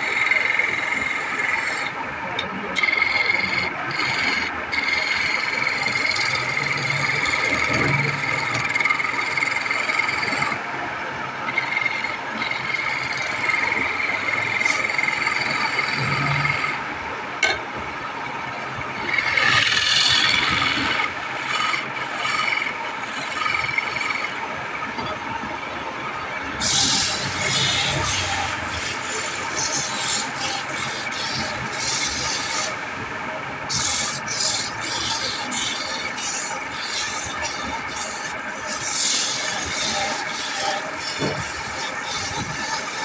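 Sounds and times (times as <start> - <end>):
chisel scraping on wood lathe: 0.1 - 1.9, 2.8 - 10.6, 11.5 - 16.8, 19.1 - 24.4, 26.6 - 32.8, 33.7 - 43.0.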